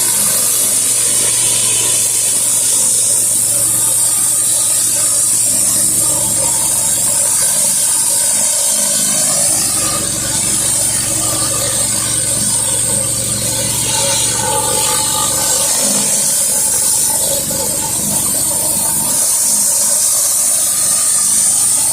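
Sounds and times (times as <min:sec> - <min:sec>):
engine hum: 0:00.0 - 0:21.9
pressure washer water hissing: 0:00.0 - 0:21.9.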